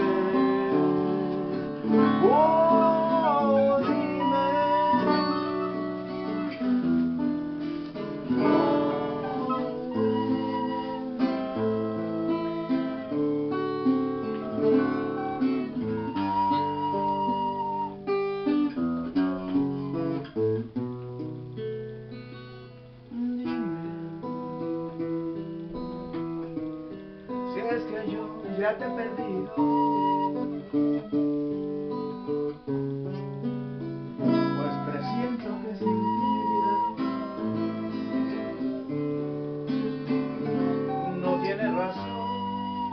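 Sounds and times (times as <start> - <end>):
acoustic guitar plucked notes: 0.0 - 42.9.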